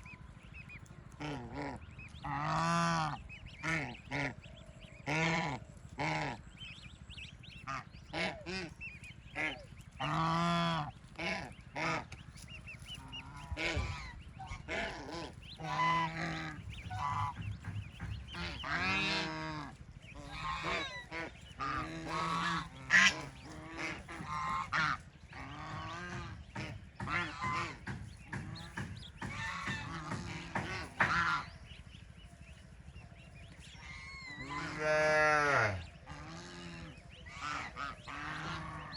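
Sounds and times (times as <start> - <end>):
ducks quacking and honking: 0.0 - 38.9.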